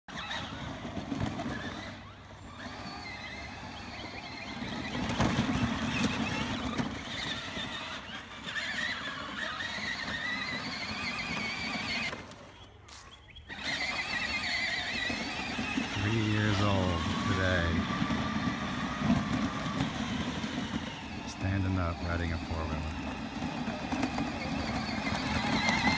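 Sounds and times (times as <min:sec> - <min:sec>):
toy electric motor whining: 0:00.1 - 0:25.9.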